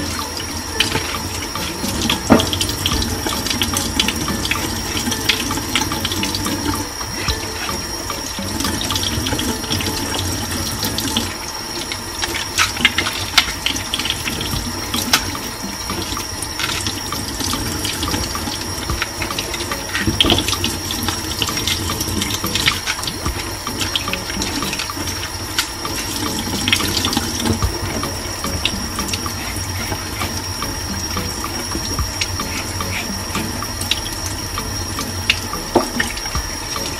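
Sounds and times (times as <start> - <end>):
tap running into a sink: 0.0 - 11.4, 12.2 - 36.9.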